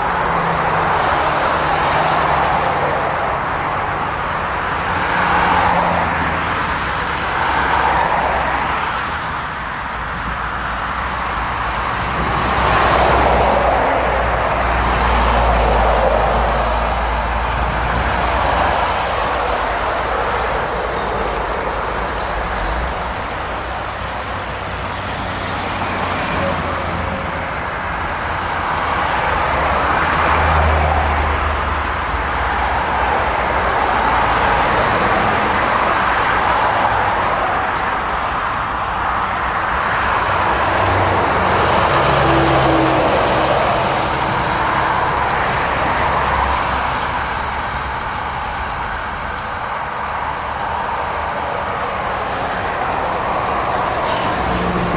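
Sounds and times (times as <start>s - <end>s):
lorry diesel engines rumbling: 0.0s - 54.9s
vehicles passing on road: 0.0s - 54.9s.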